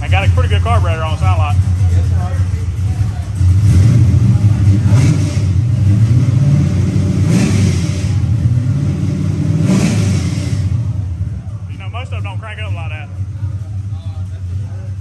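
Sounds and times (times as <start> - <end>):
truck engine revving at idle: 0.0 - 15.0.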